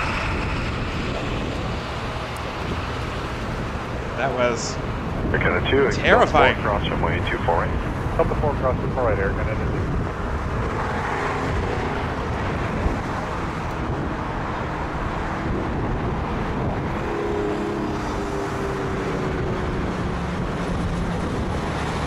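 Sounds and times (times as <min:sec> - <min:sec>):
faint engine whine: 0:00.0 - 0:22.0
jet engine noise: 0:00.0 - 0:22.0
wind buffeting microphone: 0:00.0 - 0:22.0.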